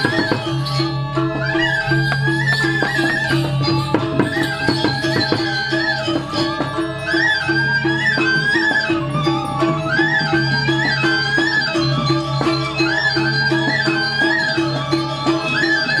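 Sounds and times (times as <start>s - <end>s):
gamelan music: 0.0s - 16.0s
sharp percussive strokes: 0.0s - 16.0s.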